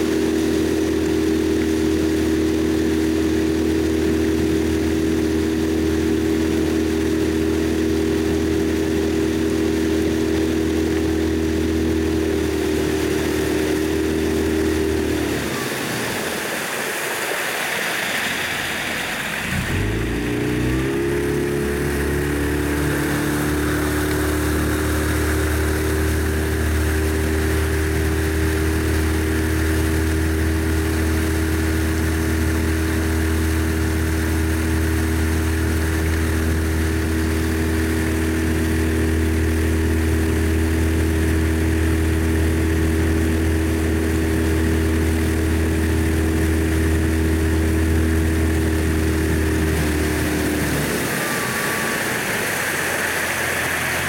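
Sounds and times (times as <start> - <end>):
motorboat engine running: 0.0 - 54.0.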